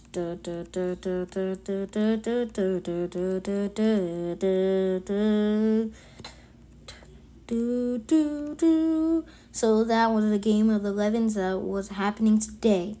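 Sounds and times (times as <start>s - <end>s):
person singing wordless tune: 0.0s - 6.1s, 6.9s - 13.0s.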